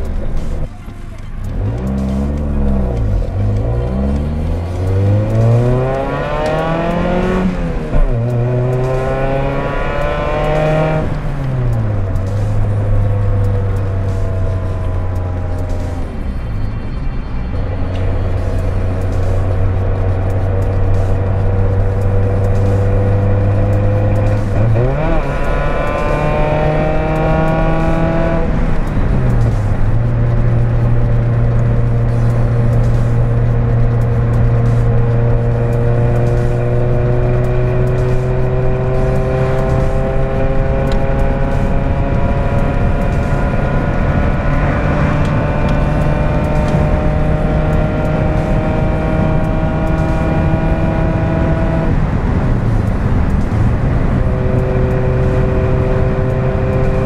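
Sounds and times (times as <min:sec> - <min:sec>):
car engine with broken exhaust: 0:00.0 - 0:57.0.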